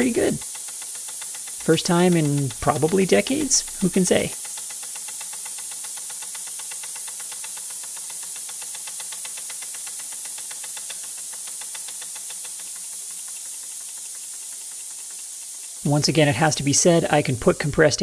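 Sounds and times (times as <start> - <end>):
air hissing: 0.0 - 18.0
rapid exhaust puffs: 0.0 - 18.0.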